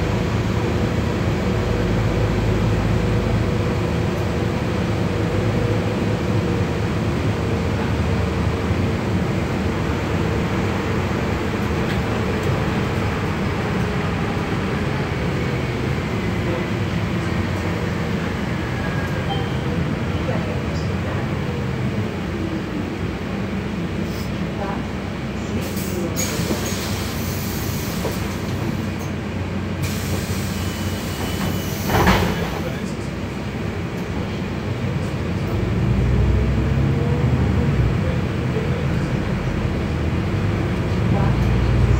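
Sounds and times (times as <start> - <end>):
bus engine running: 0.0 - 41.9
tyres on wet road: 0.0 - 41.9.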